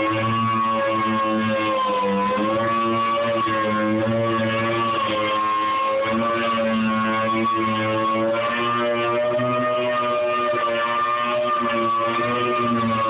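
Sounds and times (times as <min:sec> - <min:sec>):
power sander motor whine: 0:00.0 - 0:13.0.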